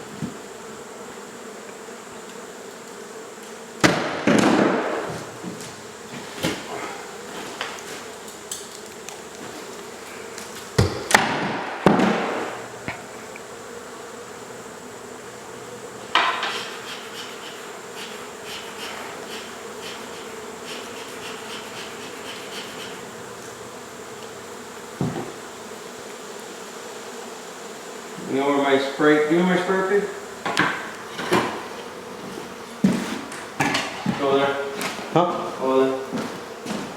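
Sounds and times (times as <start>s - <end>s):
honey bees buzzing: 0.0s - 36.9s.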